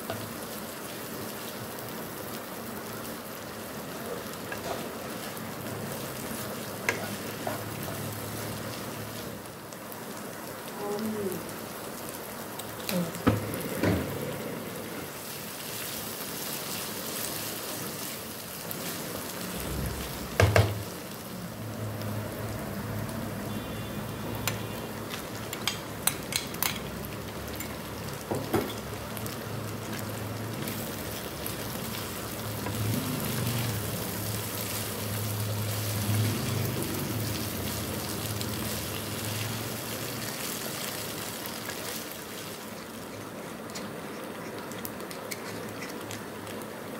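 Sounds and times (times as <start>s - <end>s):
food sizzling in a wok: 0.0s - 46.9s.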